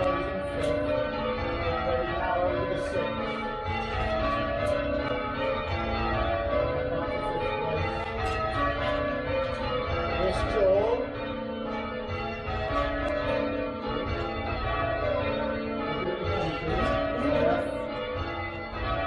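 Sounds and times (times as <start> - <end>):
church bells ringing in changes: 0.0 - 19.0.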